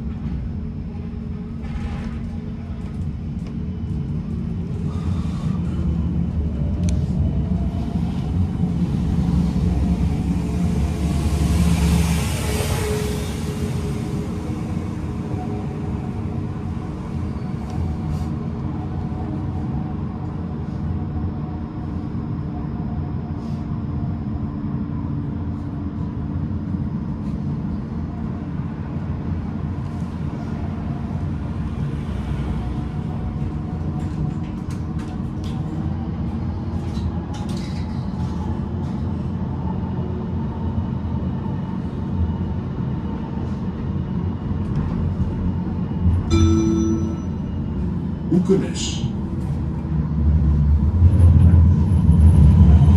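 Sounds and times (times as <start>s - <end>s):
tram wheels rumbling on track: 0.0s - 23.2s, 26.3s - 52.9s.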